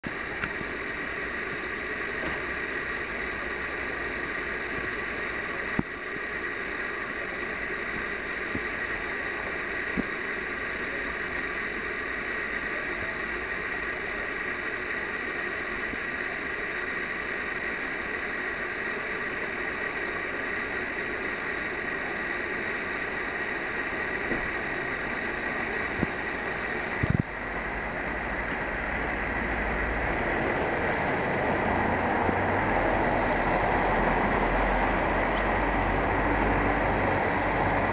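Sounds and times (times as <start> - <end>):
background hiss and hum: 0.0 - 37.9
high-pitched whine: 0.0 - 37.9.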